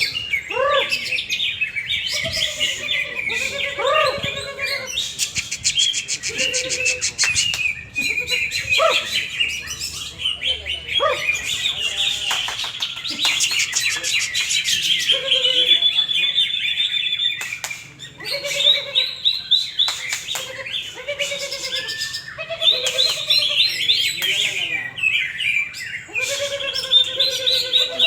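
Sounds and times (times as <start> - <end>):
birds chirping and trilling: 0.0 - 28.0
whistled bird calls: 0.0 - 28.0.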